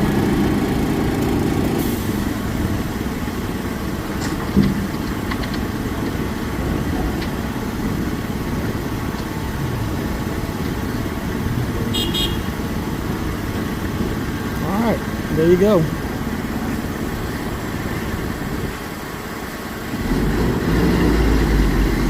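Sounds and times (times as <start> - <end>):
heavy diesel engines idling: 0.0 - 22.0.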